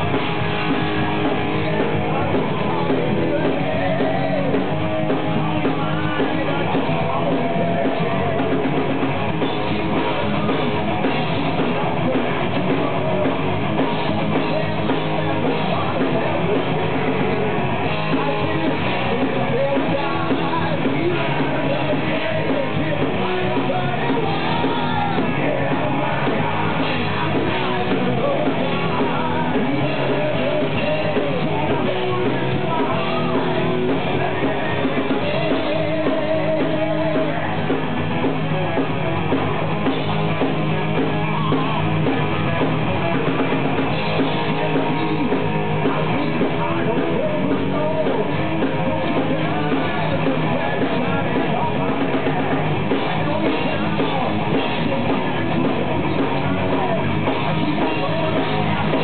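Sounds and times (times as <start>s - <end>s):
bass guitar: 0.0s - 59.0s
drums: 0.0s - 59.0s
electric guitars: 0.0s - 59.0s
person singing: 0.0s - 59.0s.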